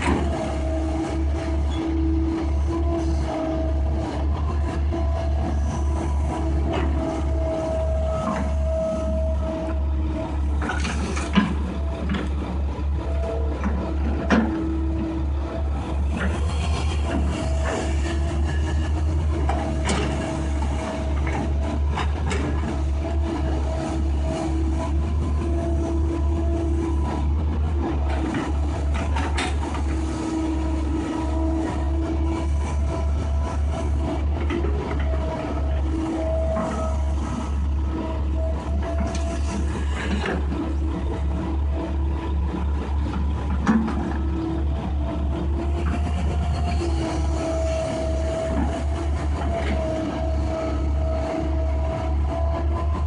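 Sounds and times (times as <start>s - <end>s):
excavator diesel engine running: 0.0s - 53.0s
hydraulic whine: 0.0s - 53.0s.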